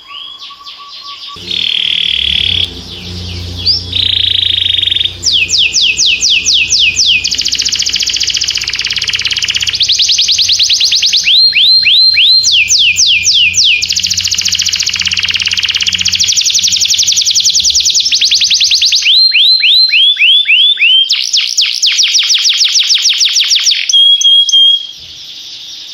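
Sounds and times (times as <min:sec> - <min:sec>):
steady bird whistle: 0:00.0 - 0:22.5.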